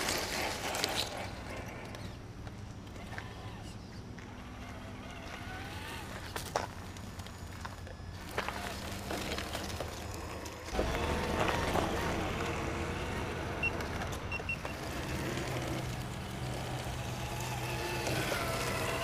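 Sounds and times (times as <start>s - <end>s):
electric motor whining: 2.8s - 19.0s.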